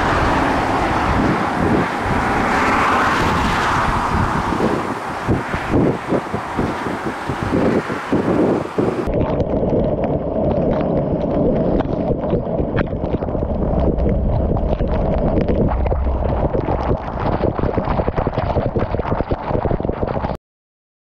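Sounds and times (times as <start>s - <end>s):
wind rumble on microphone: 0.0s - 20.4s.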